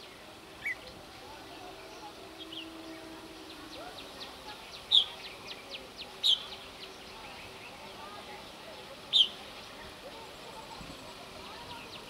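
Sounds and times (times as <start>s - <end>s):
faint murmur of voices: 0.0s - 12.0s.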